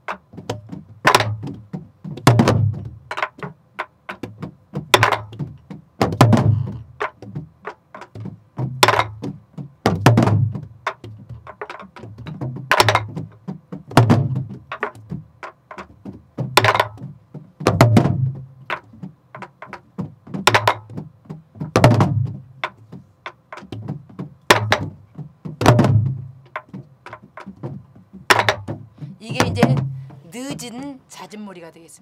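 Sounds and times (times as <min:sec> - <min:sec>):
barrel drums struck with sticks: 0:00.0 - 0:30.7.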